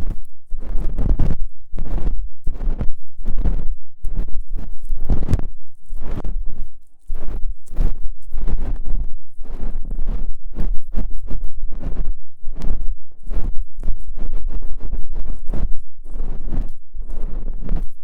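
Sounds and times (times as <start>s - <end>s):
ear pick scraping microphone: 0.0s - 18.0s.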